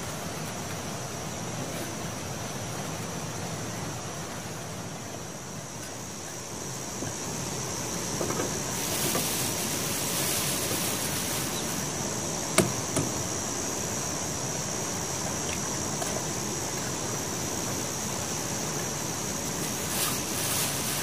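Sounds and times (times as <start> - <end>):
broth boiling in pot: 0.0 - 21.0.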